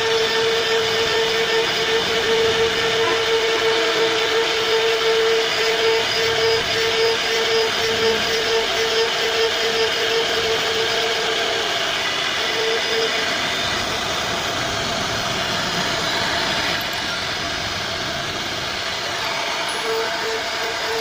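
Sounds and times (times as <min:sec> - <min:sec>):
hiss of bit cutting wood: 0:00.0 - 0:21.0
router spindle whine: 0:00.0 - 0:21.0.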